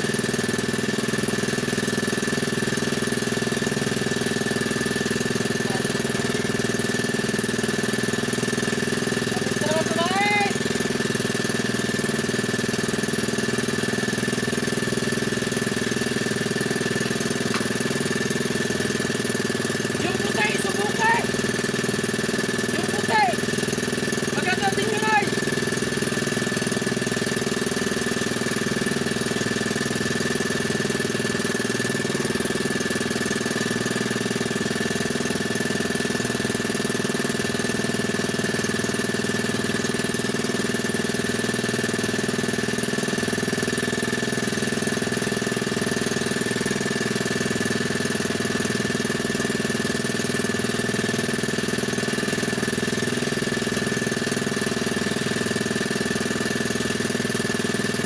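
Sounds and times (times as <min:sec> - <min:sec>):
small boat engine running: 0:00.0 - 0:58.0.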